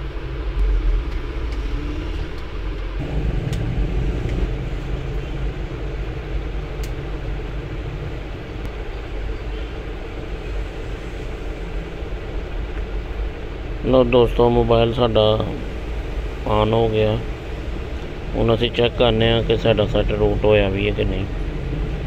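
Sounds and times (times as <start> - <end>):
background rumble and hiss: 0.0 - 22.0.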